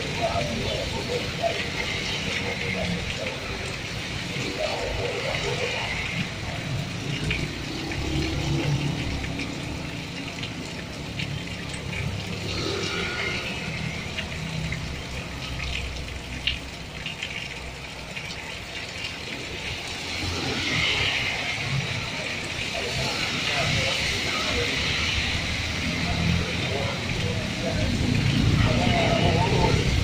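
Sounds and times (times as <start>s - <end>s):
heavy rain falling: 0.0s - 30.0s
low traffic rumble: 0.0s - 30.0s
vehicles swishing on wet road: 0.0s - 30.0s
water splashing and dripping: 0.0s - 30.0s.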